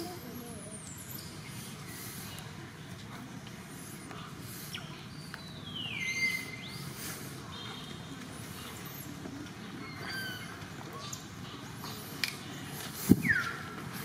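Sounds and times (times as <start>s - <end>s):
steady low background noise: 0.0s - 14.0s.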